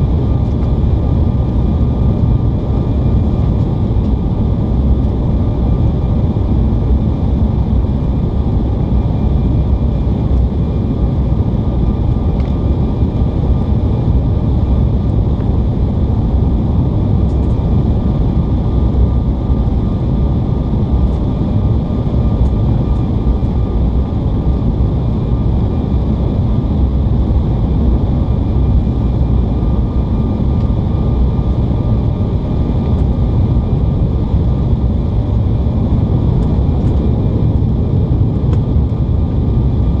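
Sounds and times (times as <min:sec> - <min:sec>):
airliner cabin rumble: 0:00.0 - 0:40.0.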